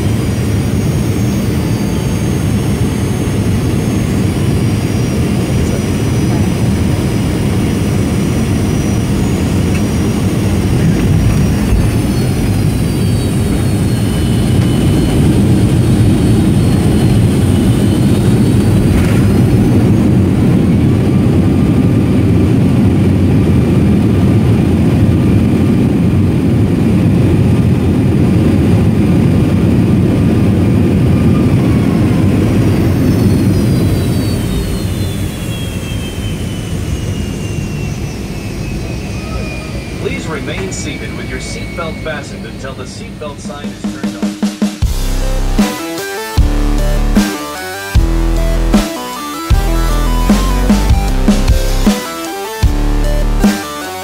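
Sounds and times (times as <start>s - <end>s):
airplane engine rumble and whine: 0.0s - 54.0s.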